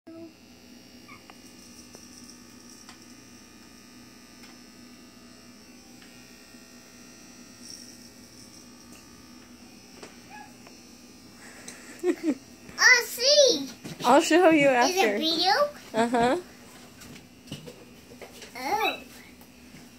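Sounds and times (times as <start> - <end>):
electric hair clippers buzzing: 0.1 - 19.9.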